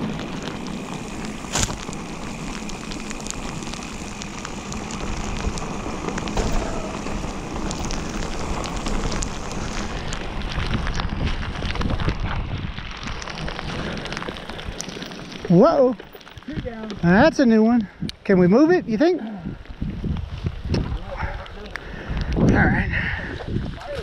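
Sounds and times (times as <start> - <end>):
bike tyres on wet rocky trail: 0.0 - 24.0
rain: 0.0 - 24.0.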